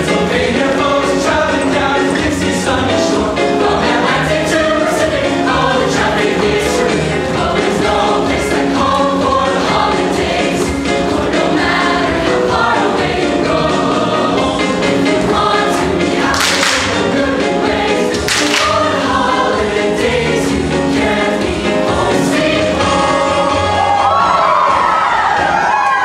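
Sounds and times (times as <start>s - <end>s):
choir singing: 0.0s - 25.6s
percussive accompaniment: 0.1s - 23.6s.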